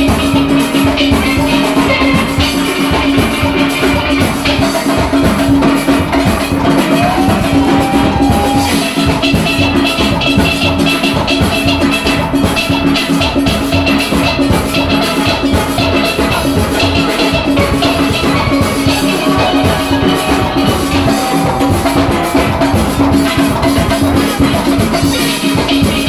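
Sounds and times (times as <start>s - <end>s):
steady beat: 0.0s - 12.4s, 13.7s - 26.0s
steel pan band playing: 0.0s - 26.0s.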